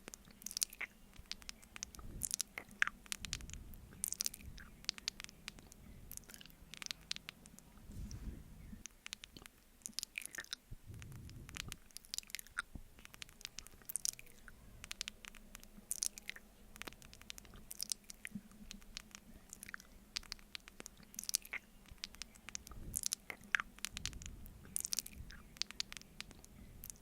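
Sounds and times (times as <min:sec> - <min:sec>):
wet mouth sounds eating: 0:00.0 - 0:27.0.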